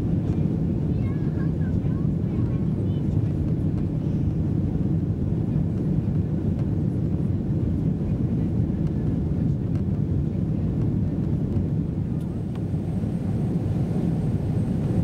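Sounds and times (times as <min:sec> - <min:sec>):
airliner engine rumble: 0:00.0 - 0:15.0.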